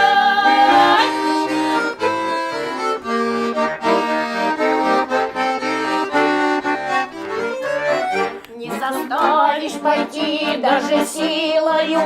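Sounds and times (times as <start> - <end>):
button accordion melody: 0.0 - 12.0.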